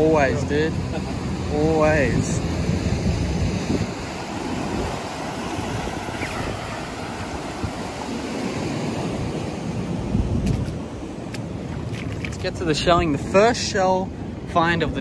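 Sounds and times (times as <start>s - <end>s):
surf washing over rocks: 0.0s - 15.0s
wind gusting on microphone: 0.0s - 15.0s.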